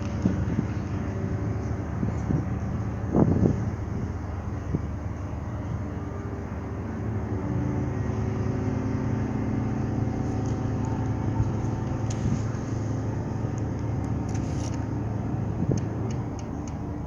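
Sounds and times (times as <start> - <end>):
ship diesel engine humming: 0.0 - 17.0.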